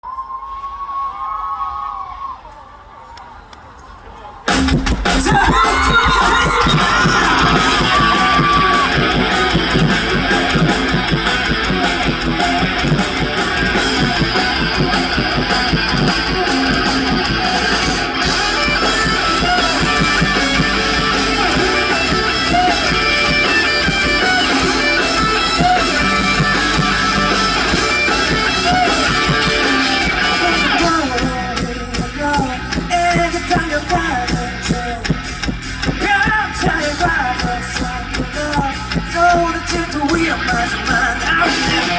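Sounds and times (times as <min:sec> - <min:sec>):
live rock band music: 0:04.5 - 0:41.9.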